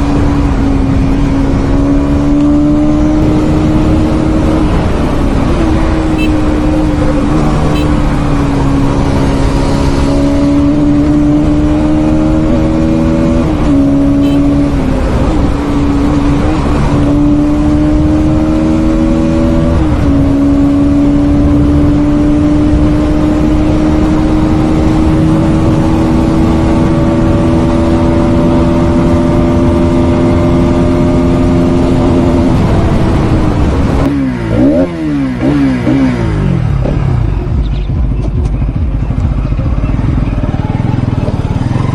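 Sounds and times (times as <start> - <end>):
motorcycle engine running hard: 0.0 - 41.9.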